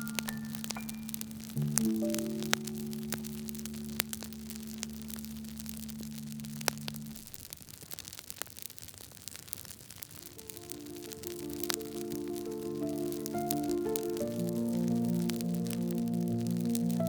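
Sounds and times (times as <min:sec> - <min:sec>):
held low music chord: 0:00.0 - 0:07.2, 0:10.2 - 0:17.0
wood fire crackling: 0:00.0 - 0:17.0.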